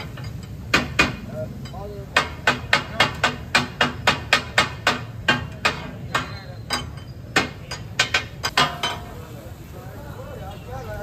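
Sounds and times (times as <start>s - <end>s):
metal spatula clacking on griddle: 0.0s - 9.2s.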